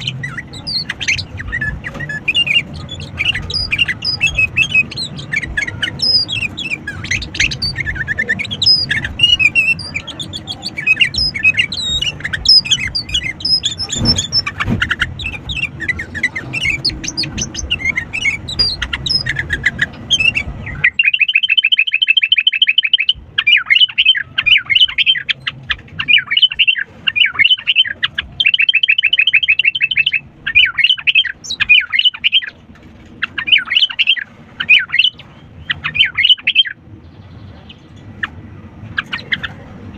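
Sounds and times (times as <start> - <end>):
fast even bird trills: 0.0 - 32.6, 33.2 - 36.8
birds singing busily: 0.0 - 39.9.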